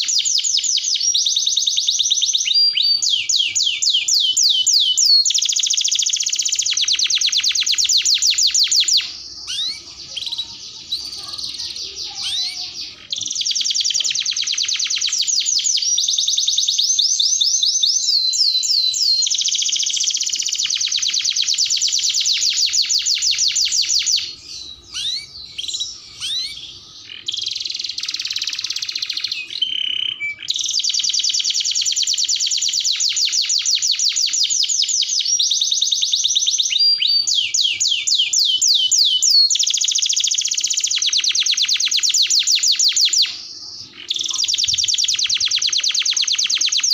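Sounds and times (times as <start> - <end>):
canary chirps: 0.0 - 46.9
canary singing rolling trills: 0.0 - 46.9.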